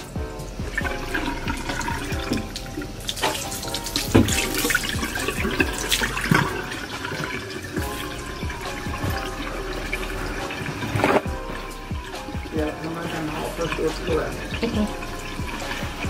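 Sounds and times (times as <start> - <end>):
background music with low thumps: 0.0 - 16.0.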